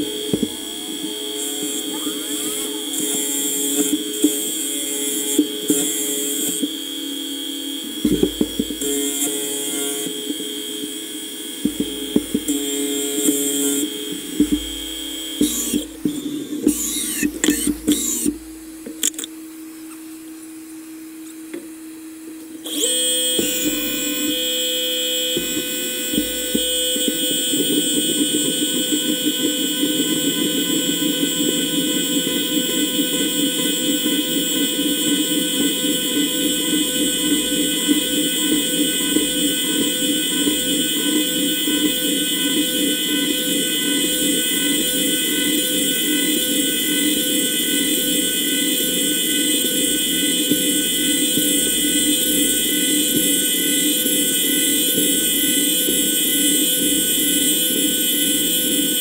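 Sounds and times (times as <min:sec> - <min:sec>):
milling machine whine and chatter: 0:00.0 - 0:19.3, 0:21.8 - 0:59.0.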